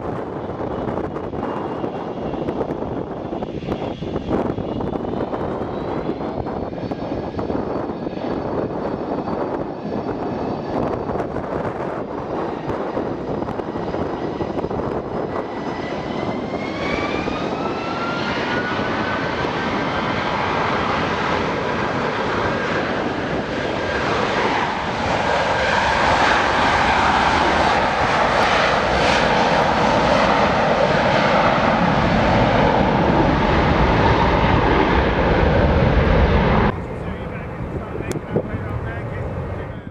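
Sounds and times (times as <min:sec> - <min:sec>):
jet engines spooling up: 0:00.0 - 0:39.9.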